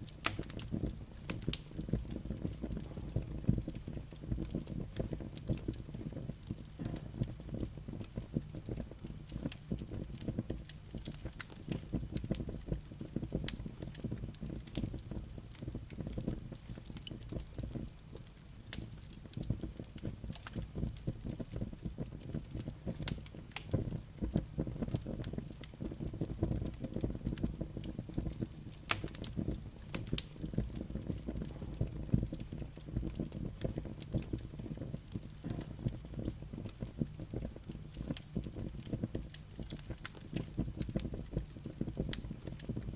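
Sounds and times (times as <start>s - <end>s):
firewood crackling and popping: 0.0s - 42.9s
flames rumbling: 0.0s - 42.9s.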